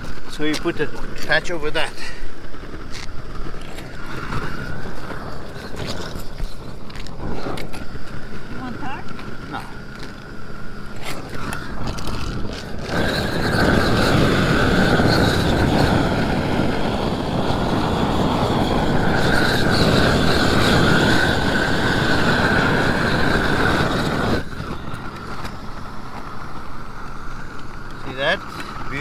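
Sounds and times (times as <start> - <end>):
roofing torch burning: 0.0 - 29.0.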